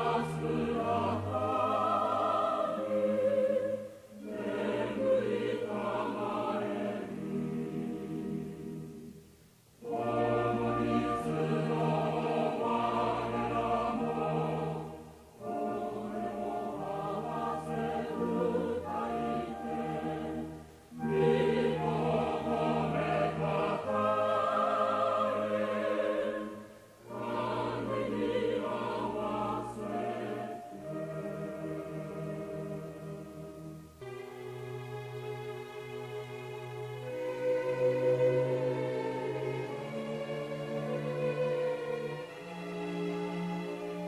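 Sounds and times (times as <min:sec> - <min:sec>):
choir singing a hymn: 0:00.0 - 0:44.0.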